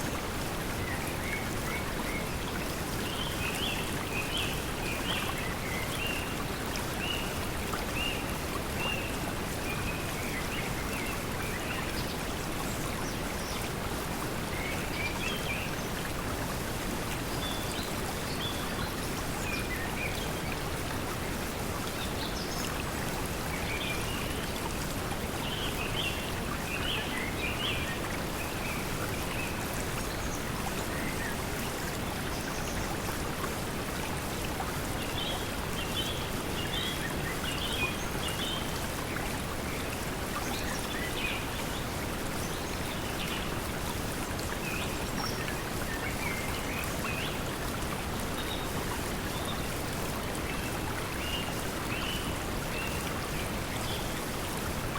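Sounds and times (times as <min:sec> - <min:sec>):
stream water flowing: 0:00.0 - 0:54.9.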